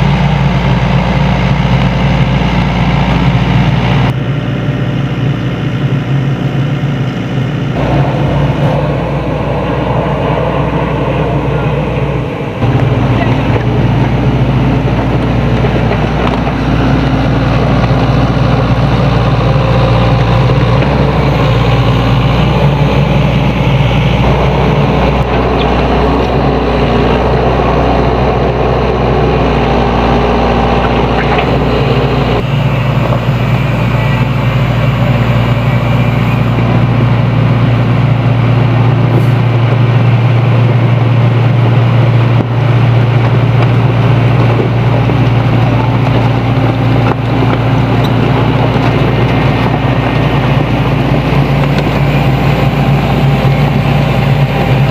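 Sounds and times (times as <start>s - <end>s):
excavator diesel engine drone: 0.0s - 54.9s.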